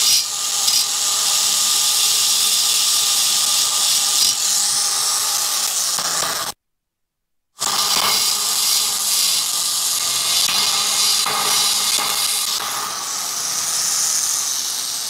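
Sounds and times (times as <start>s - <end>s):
rotary grinder cutting metal: 0.0s - 6.6s, 7.6s - 15.0s.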